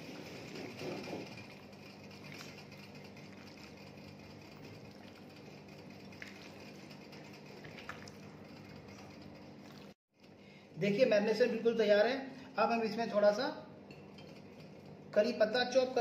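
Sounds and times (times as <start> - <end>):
faint mechanical hum: 0.0 - 16.0.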